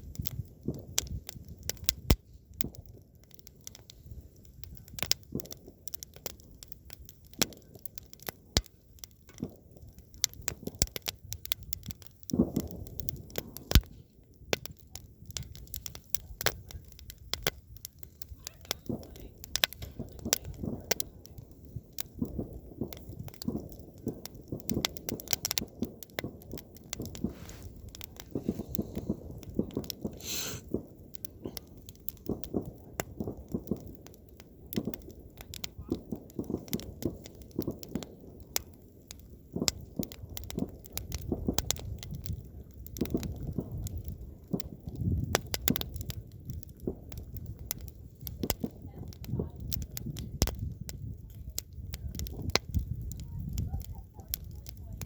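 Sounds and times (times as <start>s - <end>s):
campfire crackling and popping: 0.0s - 55.0s
rush of flames: 0.0s - 55.0s.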